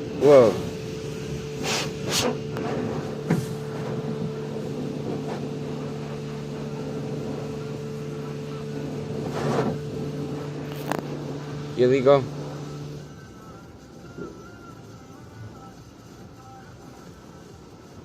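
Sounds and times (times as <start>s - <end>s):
car wash machinery hum: 0.0s - 18.0s.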